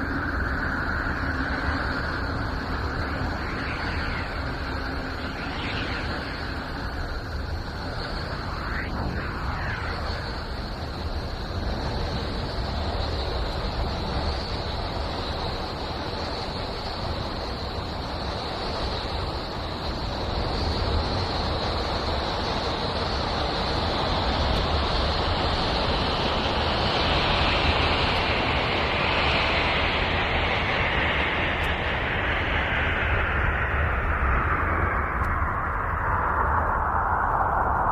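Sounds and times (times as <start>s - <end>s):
steady rushing noise: 0.0s - 37.9s.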